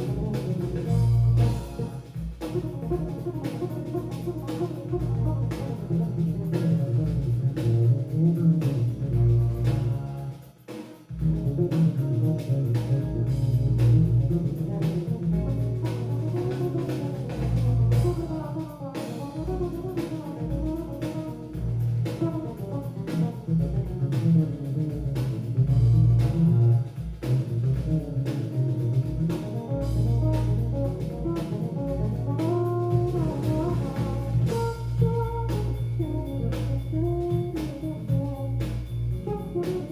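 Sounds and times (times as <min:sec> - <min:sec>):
jazz fusion band playing: 0:00.0 - 0:39.9.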